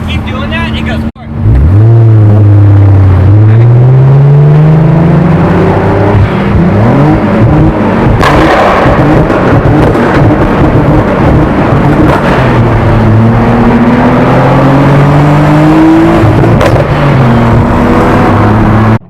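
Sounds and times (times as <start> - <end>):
car engine accelerating: 0.0 - 19.0
road noise: 0.0 - 19.0.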